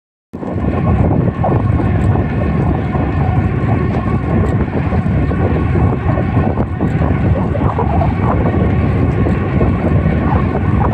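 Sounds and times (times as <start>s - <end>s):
bike tyres humming: 0.4s - 10.9s
wind buffeting microphone: 0.4s - 10.9s.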